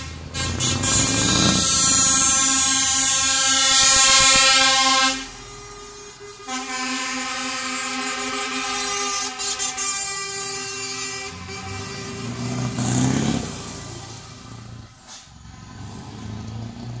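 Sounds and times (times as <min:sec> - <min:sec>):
truck air horn blast: 0:00.0 - 0:15.3
truck diesel engines passing: 0:00.0 - 0:17.0.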